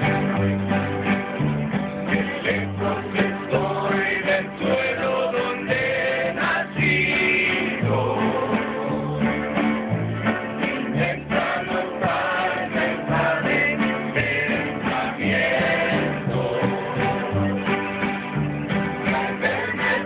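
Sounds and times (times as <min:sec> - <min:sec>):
plucked upright bass: 0:00.0 - 0:20.0
strummed acoustic guitars: 0:00.0 - 0:20.0
group of voices singing: 0:02.0 - 0:18.0, 0:18.8 - 0:20.0.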